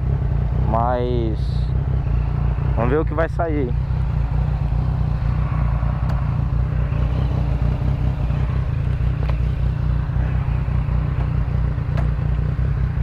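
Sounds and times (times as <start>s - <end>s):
motorcycle idling: 0.0s - 13.0s
second motorcycle running: 0.0s - 13.0s.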